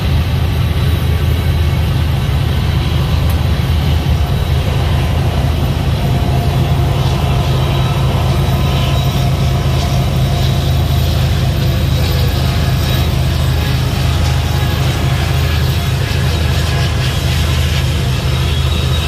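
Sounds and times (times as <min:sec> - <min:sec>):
diesel locomotive: 0:00.0 - 0:19.0
train wheels rumbling on rail: 0:00.0 - 0:19.0.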